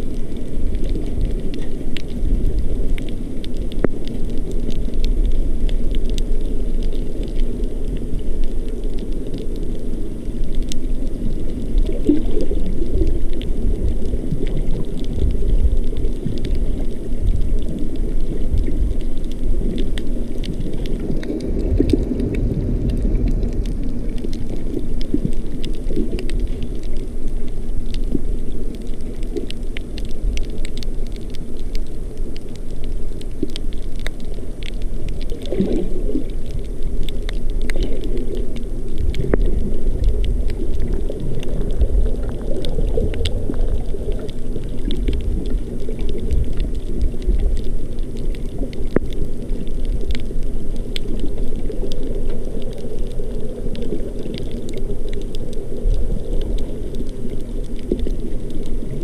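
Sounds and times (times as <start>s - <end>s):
faint crackling clicks: 0.0s - 59.0s
underwater rumble of water: 0.0s - 59.0s.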